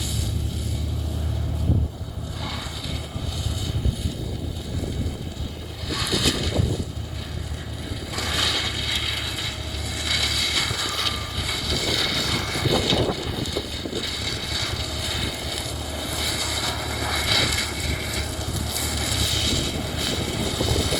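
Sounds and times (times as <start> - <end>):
diesel engine low hum: 0.0 - 20.9.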